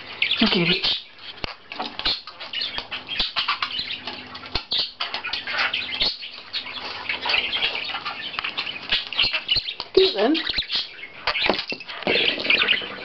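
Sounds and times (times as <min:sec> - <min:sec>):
budgerigar chattering and warbling: 0:00.2 - 0:13.0.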